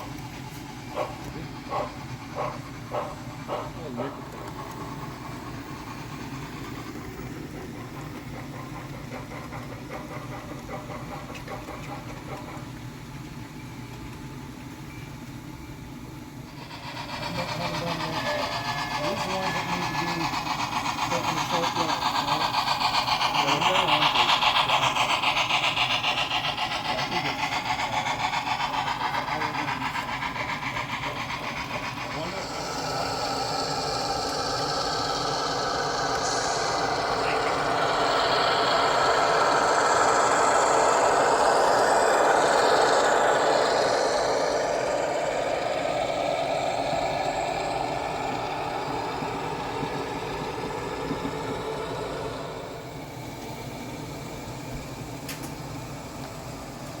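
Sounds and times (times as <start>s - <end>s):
diesel engine idling sound: 0.0s - 13.9s, 15.8s - 57.0s
model train wheels clattering: 0.0s - 14.3s, 16.5s - 57.0s.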